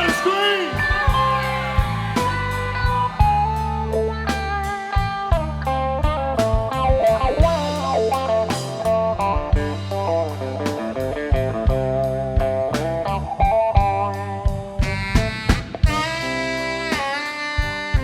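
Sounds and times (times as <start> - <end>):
bass and drums: 0.0 - 18.0
electric guitar blues solo: 0.0 - 18.0.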